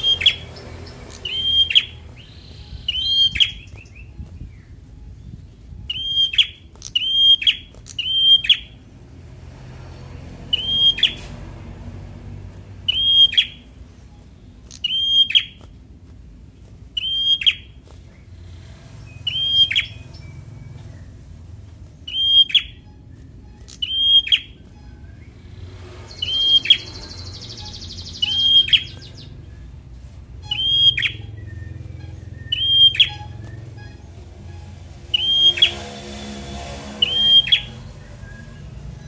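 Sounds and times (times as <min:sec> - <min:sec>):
songbird calling sharp high notes: 0:00.0 - 0:09.3, 0:10.4 - 0:12.0, 0:12.6 - 0:39.0.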